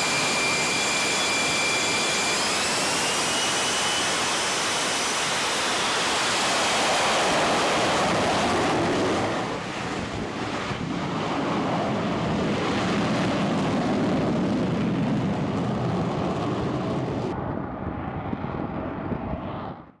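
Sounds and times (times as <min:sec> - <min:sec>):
jet engine roaring: 0:00.0 - 0:20.0.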